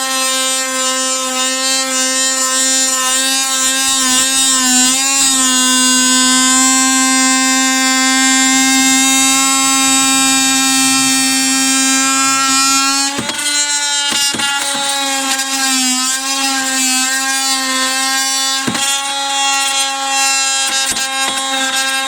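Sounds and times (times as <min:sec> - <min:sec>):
oscillating multi-tool buzzing: 0:00.0 - 0:22.0.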